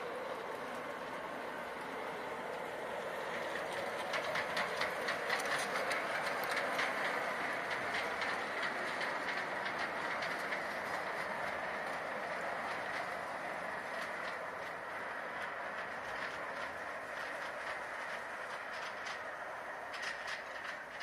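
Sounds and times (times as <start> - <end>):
model train motor whirring: 0.0 - 21.0
wheels clicking over rail joints: 0.0 - 21.0.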